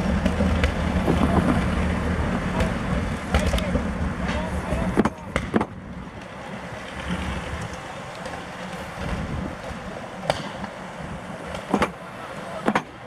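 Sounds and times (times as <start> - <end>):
steady rushing noise: 0.0 - 13.0
train coach rolling on track: 0.0 - 13.0
wheels clicking over rail joints: 0.0 - 13.0.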